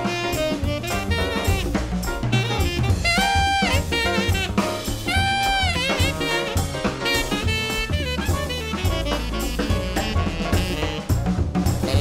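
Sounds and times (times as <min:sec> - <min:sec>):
bass: 0:00.0 - 0:12.0
drums: 0:00.0 - 0:12.0
jazz horn lead: 0:00.0 - 0:12.0.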